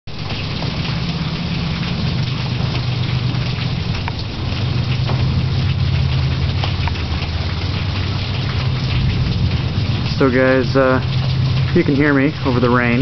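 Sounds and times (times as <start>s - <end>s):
heavy rain pouring: 0.1s - 13.0s
low thunder rumble: 0.2s - 13.0s.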